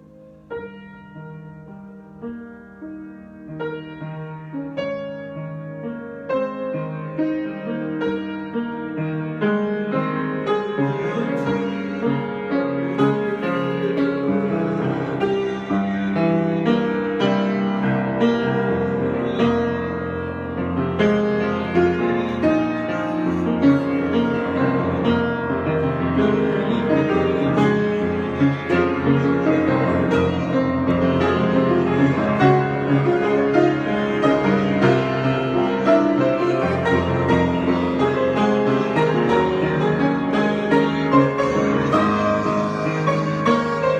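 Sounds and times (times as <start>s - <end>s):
piano improvisation: 0.0s - 43.9s.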